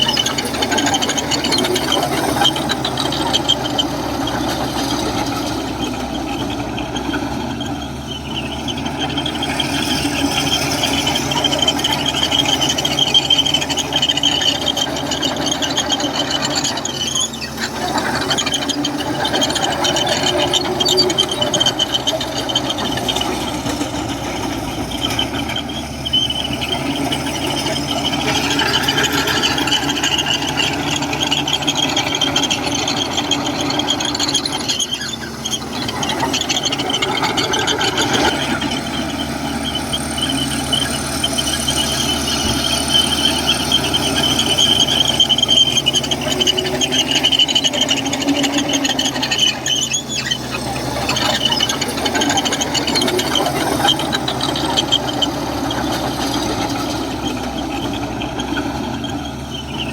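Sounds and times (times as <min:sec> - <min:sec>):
bulldozer diesel engine: 0:00.0 - 0:59.9
steel tracks squealing: 0:00.0 - 0:59.9.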